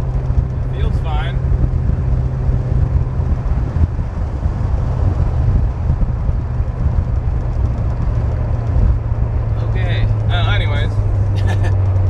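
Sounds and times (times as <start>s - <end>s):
car engine drone: 0.0s - 12.0s
road and tyre rumble: 0.0s - 12.0s.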